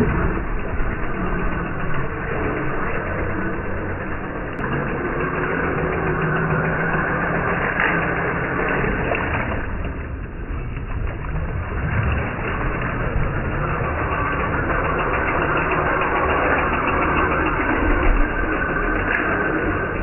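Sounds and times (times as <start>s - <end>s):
electric motor and drivetrain running: 0.0s - 20.0s
toy car driving through water: 0.2s - 20.0s.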